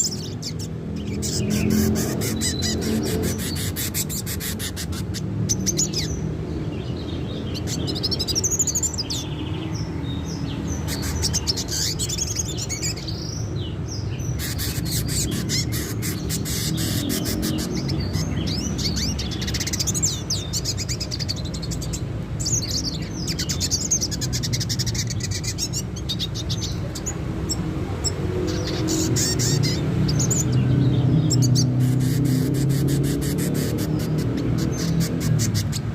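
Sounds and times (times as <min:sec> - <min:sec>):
bird twittering song: 0:00.0 - 0:35.9.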